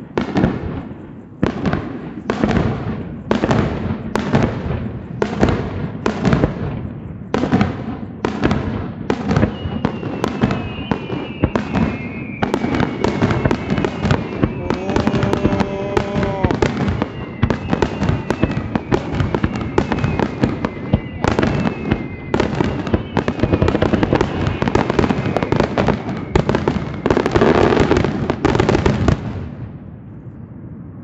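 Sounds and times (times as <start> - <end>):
fireworks bursting and crackling: 0.0 - 30.1.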